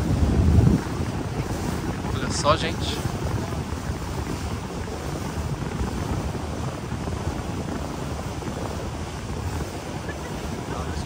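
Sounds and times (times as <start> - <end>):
boat engine rumble: 0.0 - 11.0
wind noise on microphone: 0.0 - 11.0.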